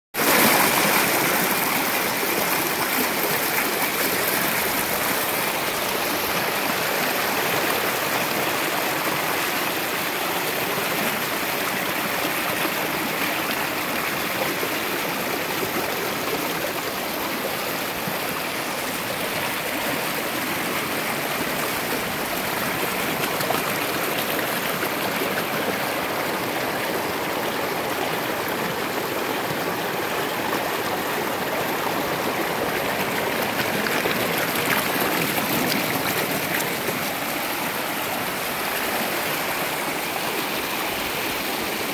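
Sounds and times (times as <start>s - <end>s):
stream rushing over rocks: 0.2s - 41.9s.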